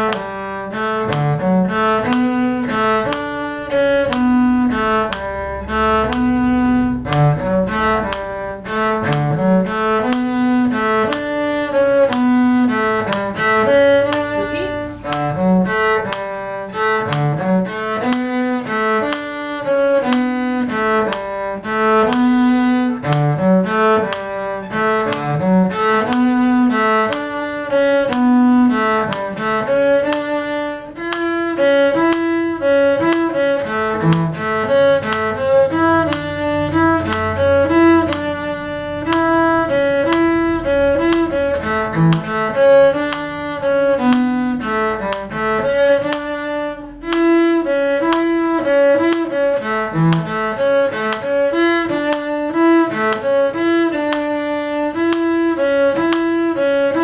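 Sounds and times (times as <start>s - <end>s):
bowed string ensemble playing: 0.0s - 57.0s
cello low line: 0.0s - 57.0s.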